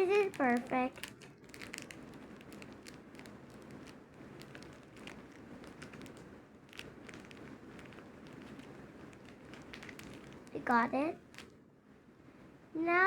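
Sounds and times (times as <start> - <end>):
light clicks and crackles: 0.0 - 11.6
soft rustling: 0.0 - 11.6.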